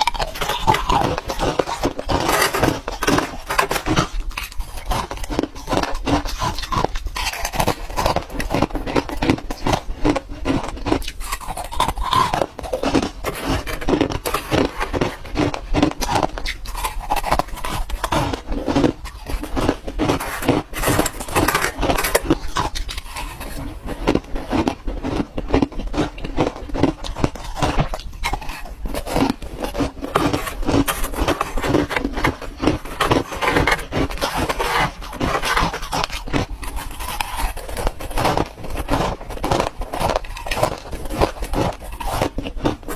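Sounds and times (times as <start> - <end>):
ice crunching in mouth: 0.0 - 42.9.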